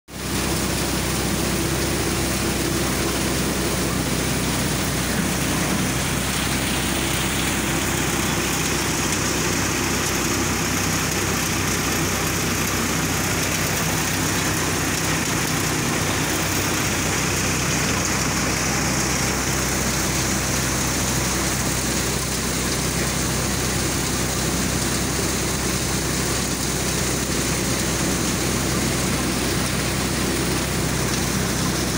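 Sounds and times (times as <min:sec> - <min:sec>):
crop thresher running: 0:00.1 - 0:31.9
straw and grain hissing through: 0:00.2 - 0:31.9.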